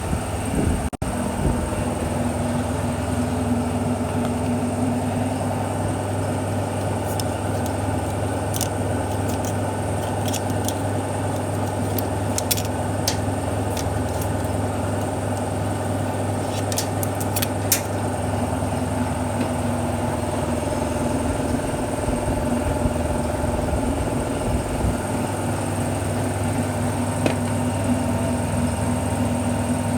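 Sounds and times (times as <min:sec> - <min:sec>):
vehicle engine idling: 0:01.1 - 0:29.9.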